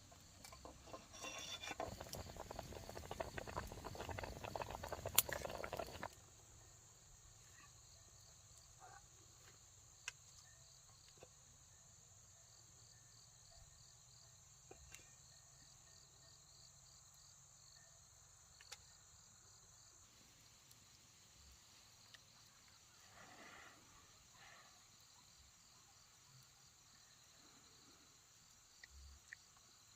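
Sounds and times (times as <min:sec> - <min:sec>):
insect chirping: 0:00.0 - 0:29.9.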